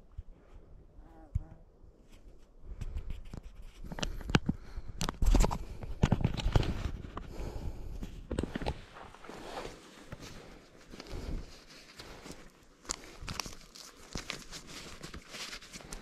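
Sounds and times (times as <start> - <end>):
rustling and clicking handling noises: 2.0 - 7.3, 8.3 - 16.0.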